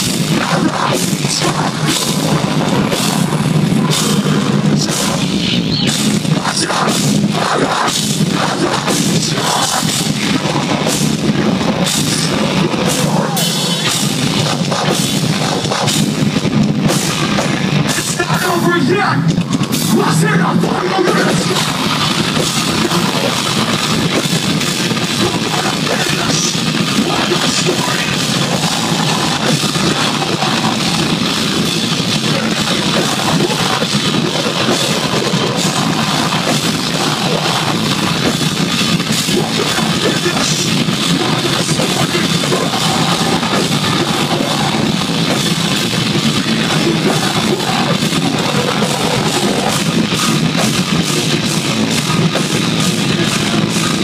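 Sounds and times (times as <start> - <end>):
bass guitar: 0.0 - 54.0
distorted electric guitars: 0.0 - 54.0
drum kit: 0.0 - 54.0.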